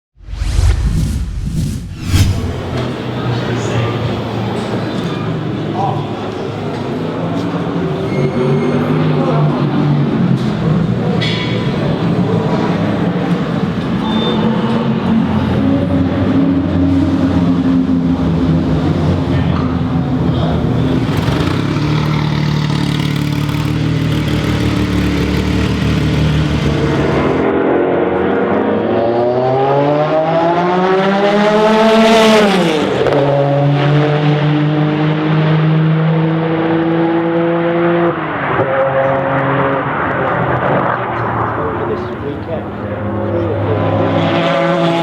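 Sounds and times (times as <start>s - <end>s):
race car engine passing: 0.3s - 7.9s, 9.0s - 45.0s.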